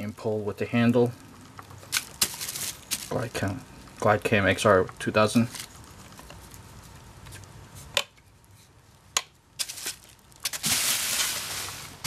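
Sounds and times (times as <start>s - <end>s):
bubble wrap crinkling: 1.2s - 9.0s, 9.6s - 12.0s.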